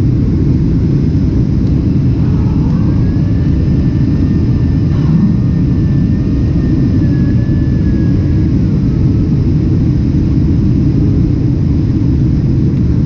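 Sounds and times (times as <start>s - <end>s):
faint high whine: 0.0s - 13.0s
jet engine low roar: 0.0s - 13.0s.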